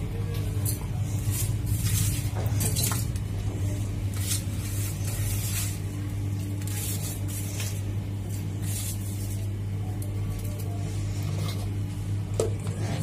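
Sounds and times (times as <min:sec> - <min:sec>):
steady low hum: 0:00.0 - 0:13.0
coconut flakes scraping on metal: 0:00.3 - 0:11.9.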